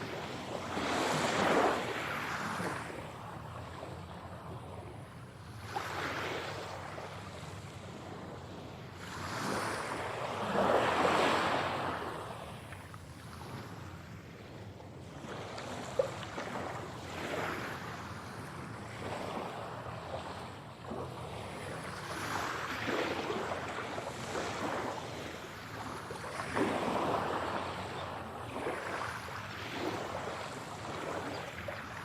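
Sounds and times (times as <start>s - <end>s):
sea waves breaking: 0.0s - 4.7s, 5.4s - 32.0s.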